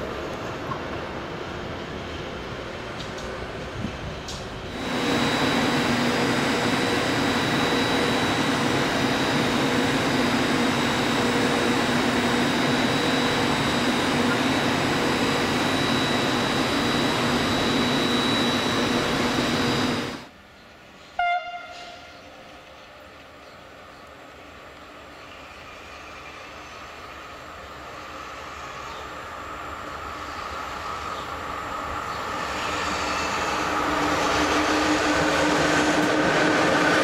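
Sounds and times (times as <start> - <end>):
train passing at speed: 0.0 - 37.0.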